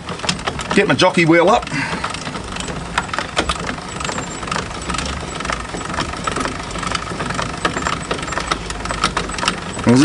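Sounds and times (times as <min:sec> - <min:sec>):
jockey wheel crank grinding: 0:00.0 - 0:10.0
ratchet clicks: 0:00.0 - 0:10.0.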